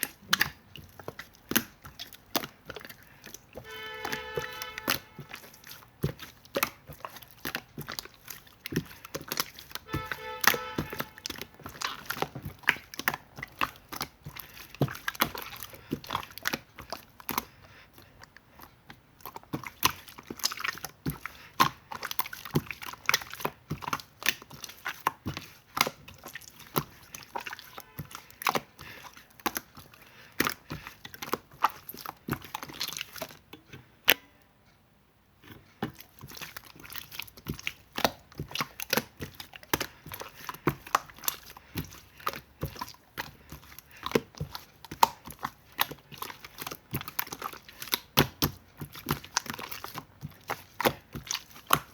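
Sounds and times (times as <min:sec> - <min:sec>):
slime squished by hand: 0:00.0 - 0:34.3, 0:35.4 - 0:51.9.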